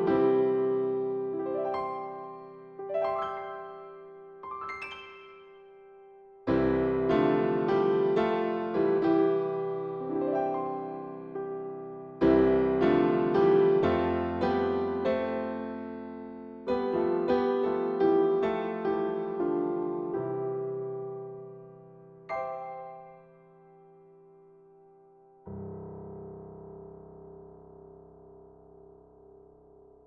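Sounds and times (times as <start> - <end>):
slow gentle piano music: 0.0 - 30.0.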